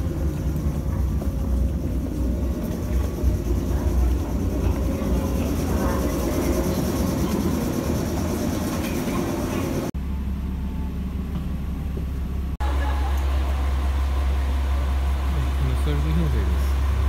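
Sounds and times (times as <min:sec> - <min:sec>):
station crowd noise: 0:00.0 - 0:11.2, 0:12.6 - 0:17.0
diesel railcar engine idling: 0:00.0 - 0:17.0.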